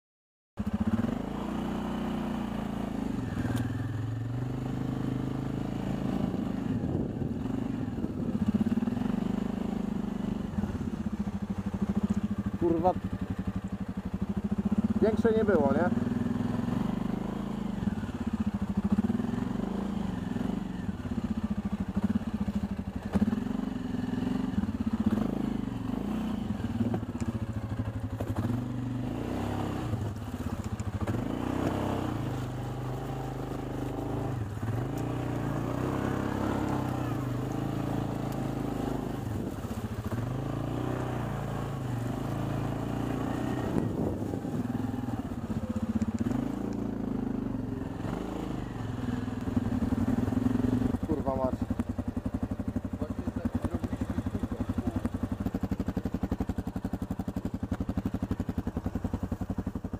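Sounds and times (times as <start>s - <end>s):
quad bike engine revving: 0.6s - 59.9s.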